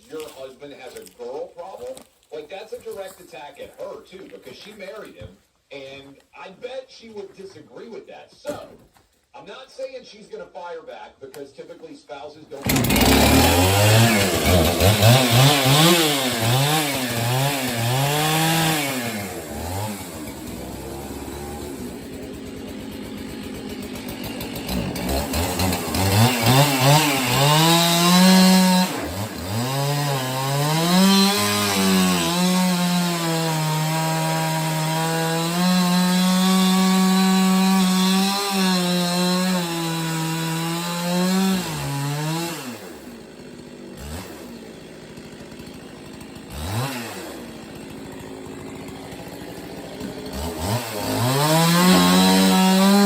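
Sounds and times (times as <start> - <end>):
chainsaw cutting through wood: 0.0 - 6.5, 12.5 - 53.0.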